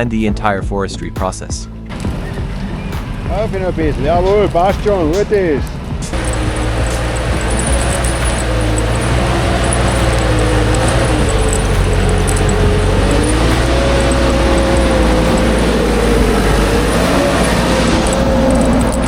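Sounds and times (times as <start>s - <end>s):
log-processing machine engine running: 1.9s - 19.0s.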